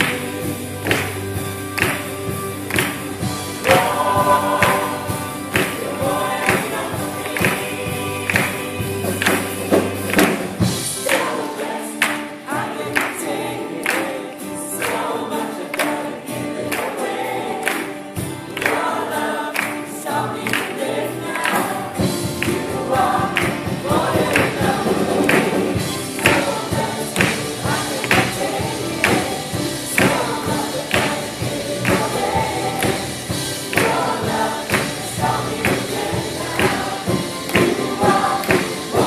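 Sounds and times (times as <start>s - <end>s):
singers singing together: 0.0s - 39.0s
worship band playing: 0.0s - 39.0s.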